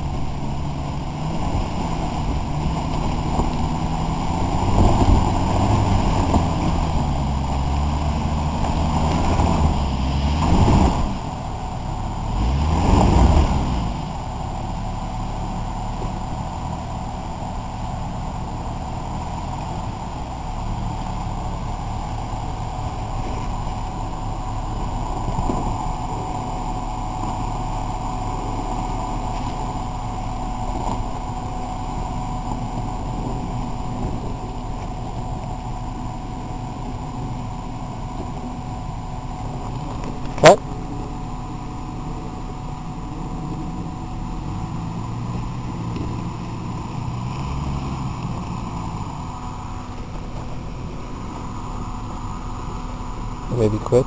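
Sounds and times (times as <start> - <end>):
car engine droning at low revs: 0.0 - 54.0.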